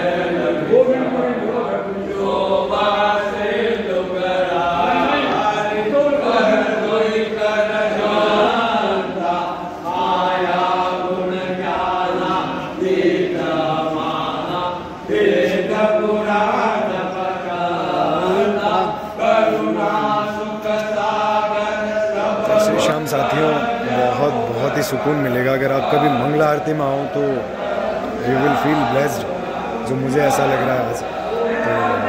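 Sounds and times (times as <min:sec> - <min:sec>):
devotional chanting: 0:00.0 - 0:32.0.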